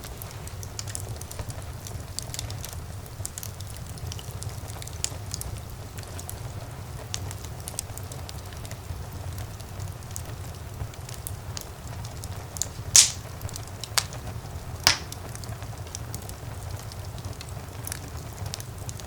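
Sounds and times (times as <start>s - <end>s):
fire crackling: 0.0s - 19.0s
loud fire pops: 0.0s - 19.0s
low rumble of flames: 0.0s - 19.0s.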